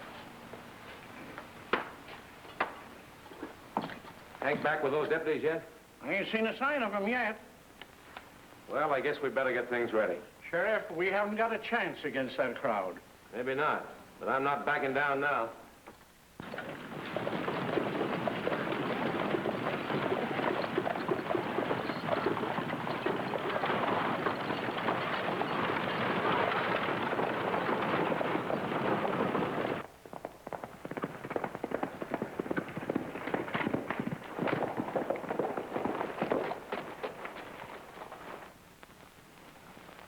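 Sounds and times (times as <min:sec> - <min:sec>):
horses hooves galloping: 0:00.0 - 0:13.6, 0:14.2 - 0:40.0.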